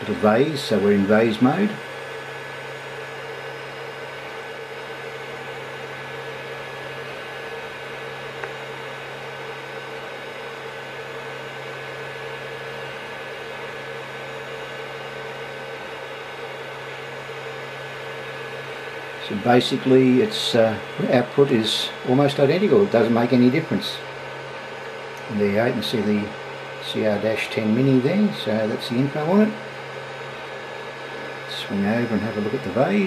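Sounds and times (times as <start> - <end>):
printer fans and motors whirring: 0.0 - 33.0.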